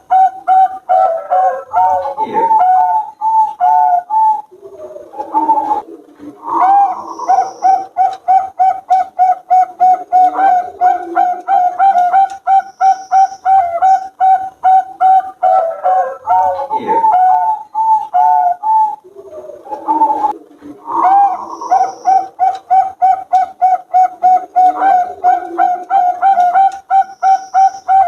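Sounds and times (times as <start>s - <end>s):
doves cooing: 0.0s - 28.0s.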